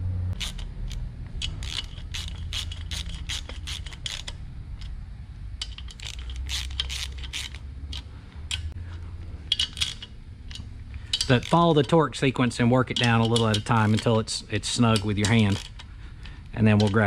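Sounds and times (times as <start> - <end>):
palm ratchet clicking: 0.4 - 4.9, 5.6 - 8.8, 9.5 - 17.0.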